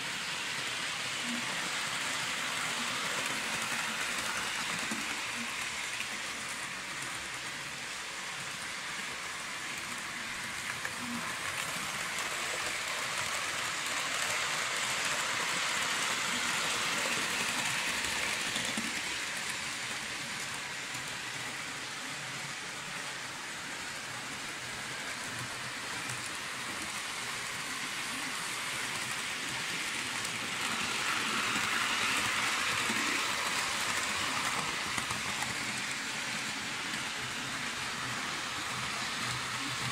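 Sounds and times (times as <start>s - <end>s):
model trains running on metal track: 0.0s - 39.9s.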